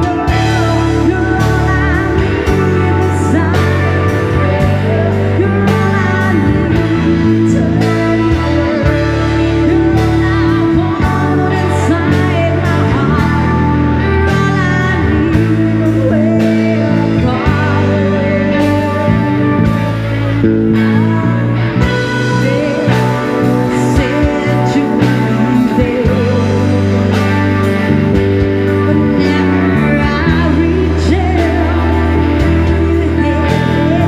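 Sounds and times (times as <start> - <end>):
person singing: 0.0 - 34.0
rock band playing live: 0.0 - 34.0.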